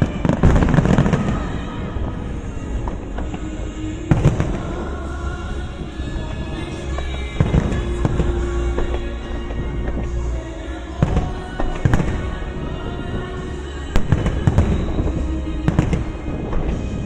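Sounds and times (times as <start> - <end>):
fireworks bangs and crackles: 0.0 - 17.0
music with held notes: 0.0 - 17.0.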